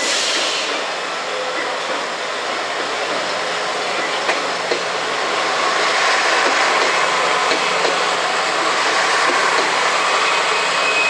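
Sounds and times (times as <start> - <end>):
diesel railcar running on tracks: 0.0 - 11.0.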